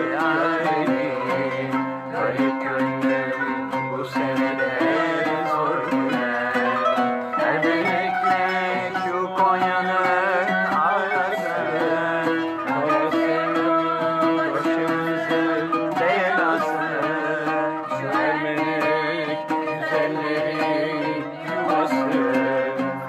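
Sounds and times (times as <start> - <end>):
folk music with string instruments: 0.0 - 23.0.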